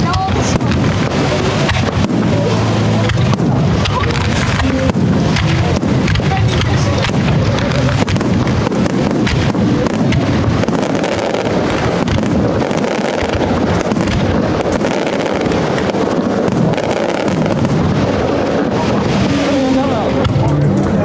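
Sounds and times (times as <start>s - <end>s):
fireworks crackling bursts: 0.0s - 21.0s.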